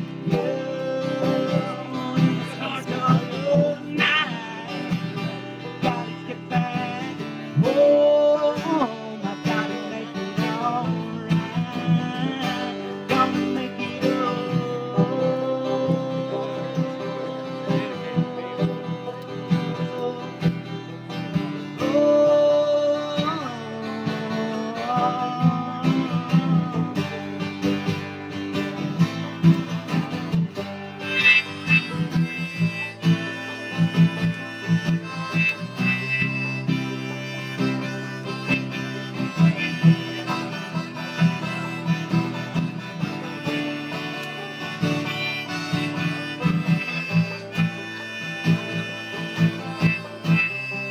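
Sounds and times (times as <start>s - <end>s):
acoustic guitar: 0.0s - 50.9s
banjo: 0.0s - 50.9s
sliding held melody: 0.0s - 50.9s.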